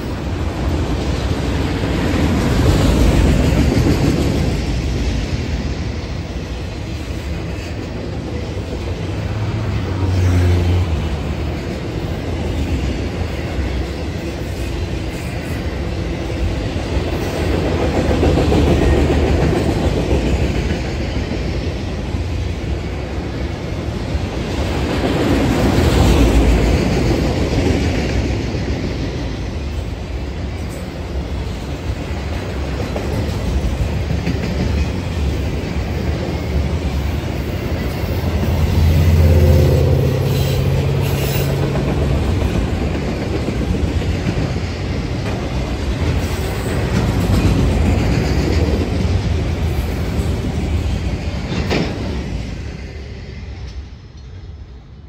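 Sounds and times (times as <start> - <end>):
freight train rumbling and rattling: 0.0 - 55.0.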